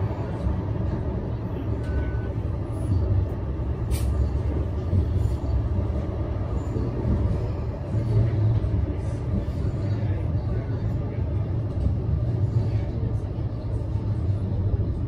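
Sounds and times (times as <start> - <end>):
tram rumbling: 0.0 - 15.0.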